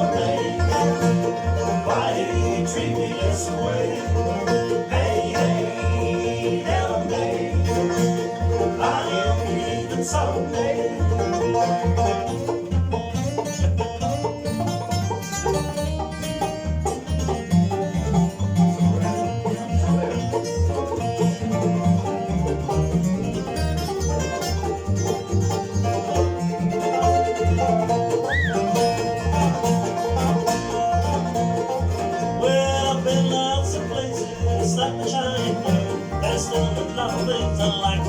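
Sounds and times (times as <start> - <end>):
banjo: 0.0 - 38.0
bass beat: 0.0 - 38.0
guitar: 0.0 - 38.0.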